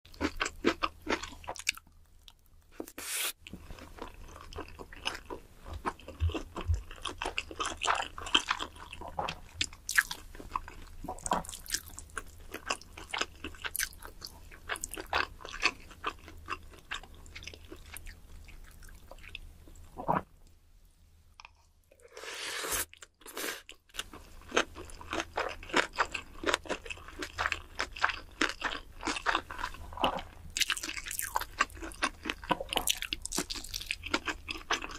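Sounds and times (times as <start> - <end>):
wet chewing and crunching: 0.1 - 20.3, 22.9 - 34.9.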